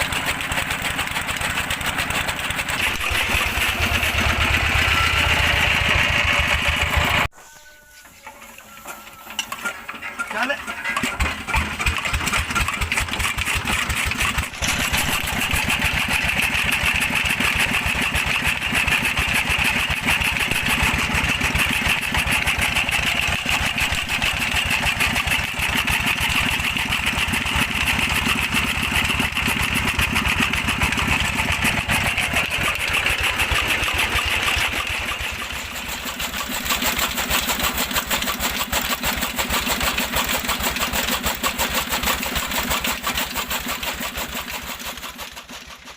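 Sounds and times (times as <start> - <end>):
diesel engine running fast: 0.0 - 7.3, 9.9 - 45.9.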